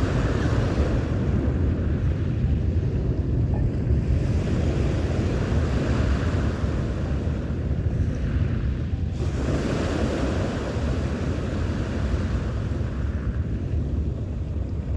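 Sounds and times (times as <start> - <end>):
sea waves washing ashore: 0.0 - 14.9
wind buffeting microphone: 0.0 - 14.9.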